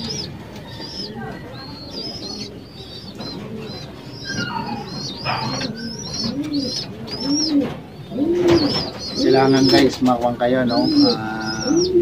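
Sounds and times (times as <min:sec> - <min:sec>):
high bird chirps: 0:00.0 - 0:12.0
pigeons cooing: 0:00.0 - 0:12.0.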